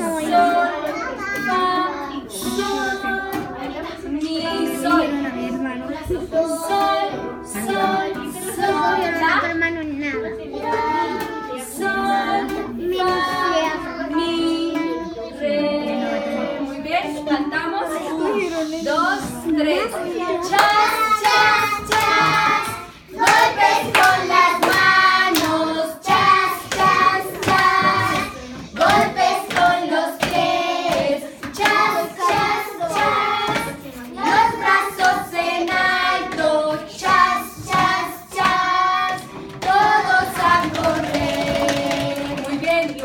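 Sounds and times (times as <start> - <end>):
children singing: 0.0 - 43.0.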